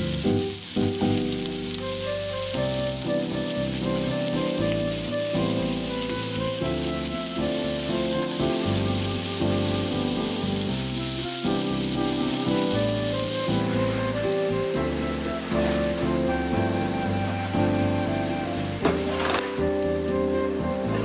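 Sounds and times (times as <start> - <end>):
food sizzling in a pan: 0.0 - 21.0
melodic background music: 0.0 - 21.0.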